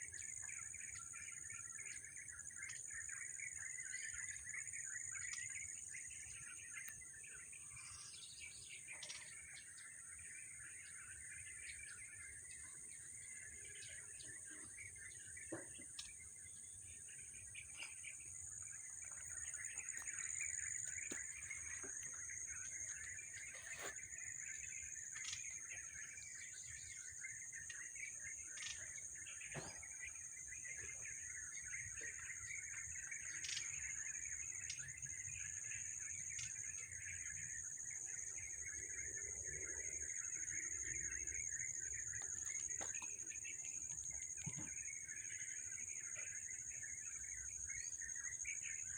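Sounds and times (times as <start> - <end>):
birds chirping and twittering: 0.0 - 48.9.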